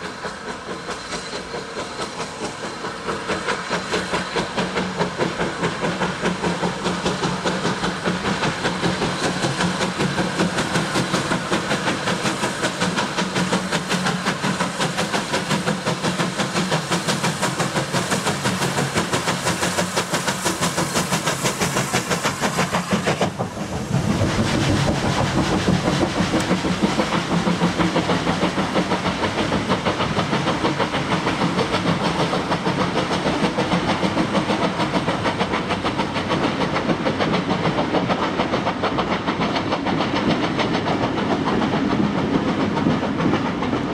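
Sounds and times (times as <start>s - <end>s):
steam hiss: 0.0s - 43.9s
steam locomotive exhaust beat: 0.0s - 43.9s.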